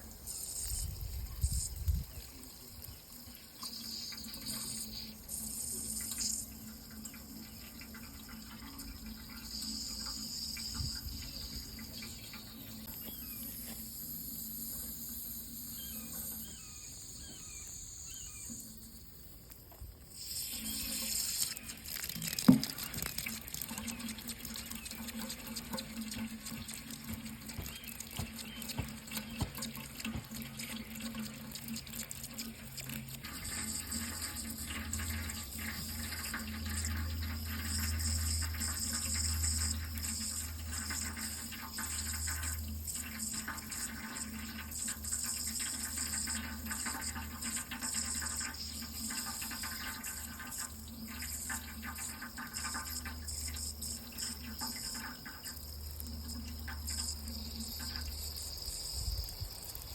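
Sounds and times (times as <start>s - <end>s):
tap water running into sink: 0.6s - 14.0s, 19.7s - 59.9s.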